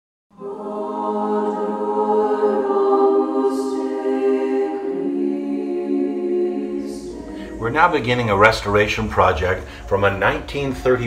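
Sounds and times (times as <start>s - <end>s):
choir of women singing a cappella: 0.3s - 9.7s.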